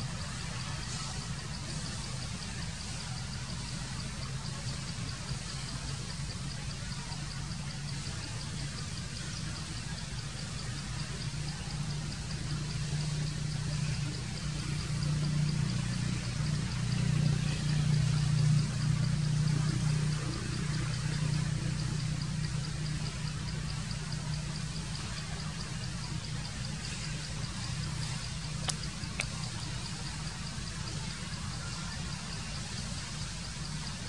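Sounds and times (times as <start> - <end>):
low engine hum: 0.0 - 34.0
faint high ticking: 0.2 - 34.0.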